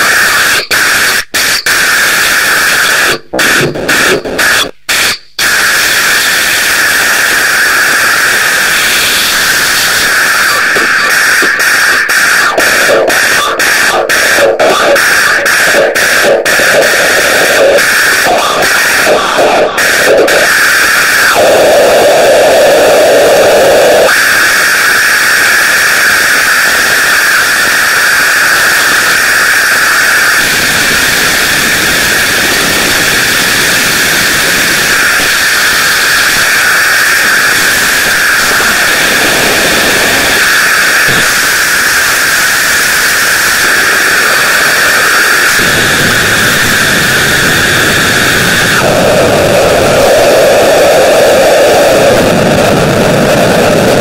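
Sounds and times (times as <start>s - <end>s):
loud steady noise: 0.0s - 54.0s.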